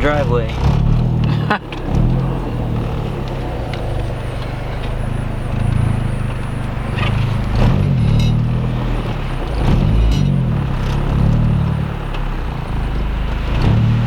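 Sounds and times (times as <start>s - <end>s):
car engine at low revs: 0.0s - 14.0s.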